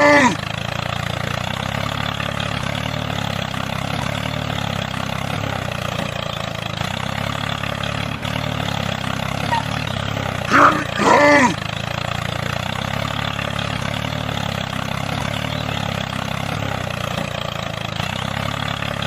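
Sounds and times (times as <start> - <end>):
tractor engine chugging: 0.0 - 19.0.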